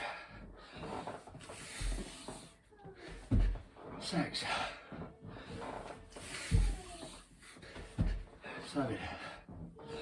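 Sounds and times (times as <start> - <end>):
hard breathing: 0.0 - 3.7, 4.4 - 10.0.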